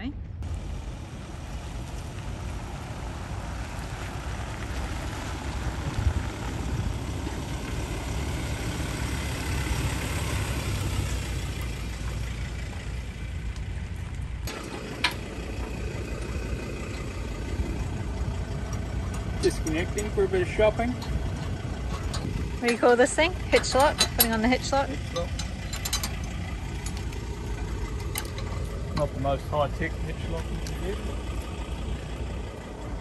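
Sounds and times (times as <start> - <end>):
car engine rumbling: 0.0 - 33.0
road and wind noise: 0.0 - 33.0.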